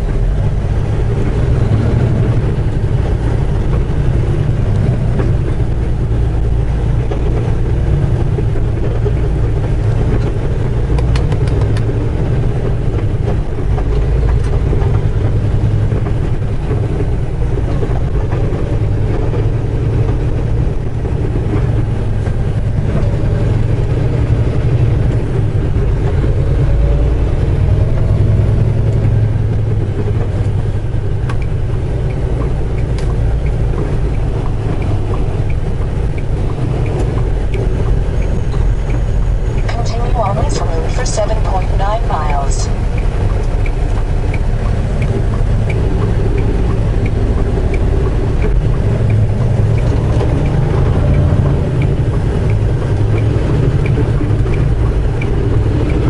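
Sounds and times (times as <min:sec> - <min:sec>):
diesel truck engine running: 0:00.0 - 0:56.0
road noise: 0:00.0 - 0:56.0.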